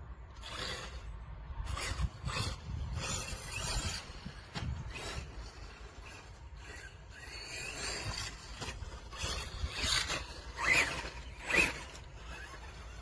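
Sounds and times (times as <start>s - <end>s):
rc truck motor whining: 0.0s - 13.0s
tyres scraping over ground: 0.1s - 13.0s.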